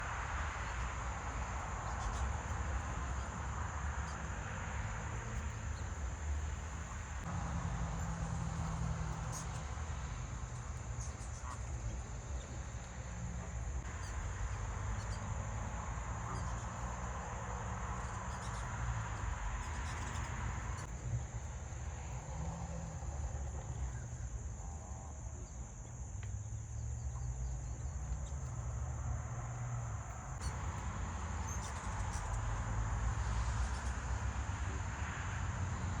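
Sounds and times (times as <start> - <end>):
high-pitched insect chorus: 0.1 - 36.0.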